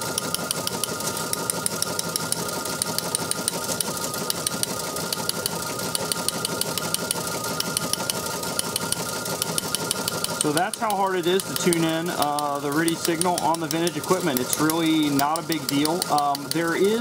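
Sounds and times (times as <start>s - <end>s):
teleprinter mechanical clatter: 0.0s - 17.0s.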